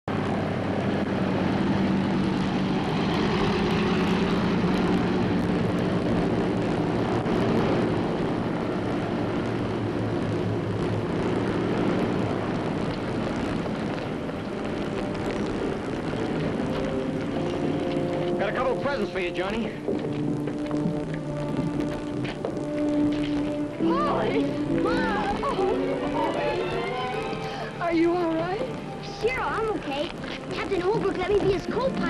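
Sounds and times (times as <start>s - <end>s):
propeller plane engines running: 0.0s - 32.0s.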